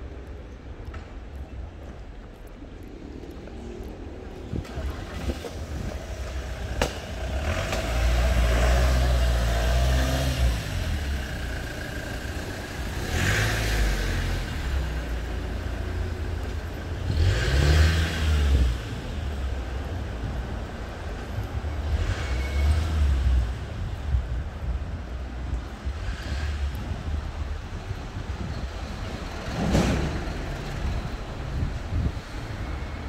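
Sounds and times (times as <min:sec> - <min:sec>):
vehicles passing on street: 0:00.0 - 0:33.0.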